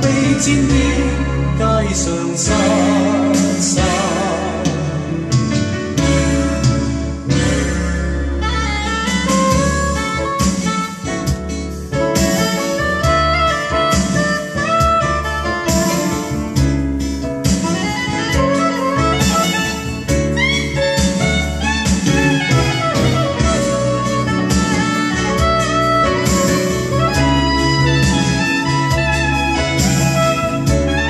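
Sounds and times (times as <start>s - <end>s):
instrumental pop song from vinyl: 0.0s - 31.0s.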